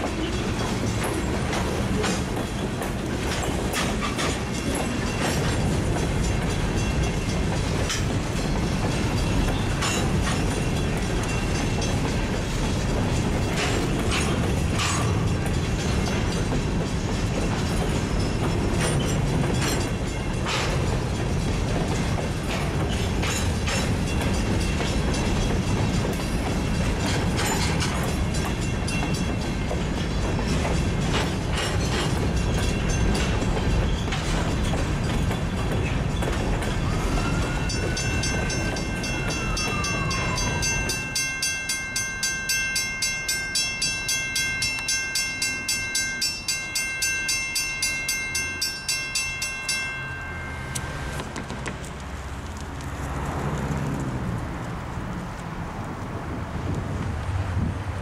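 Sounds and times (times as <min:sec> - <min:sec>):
crossing bell ringing: 0:00.0 - 0:52.0
freight train rumbling over crossing: 0:00.0 - 0:58.0.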